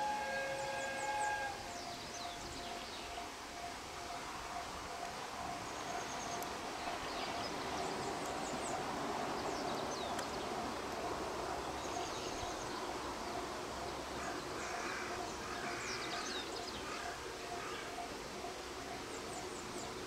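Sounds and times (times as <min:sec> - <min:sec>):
birds chirping: 0:00.0 - 0:20.0
faint steady hum: 0:00.0 - 0:20.0
outdoor background hiss: 0:00.0 - 0:20.0.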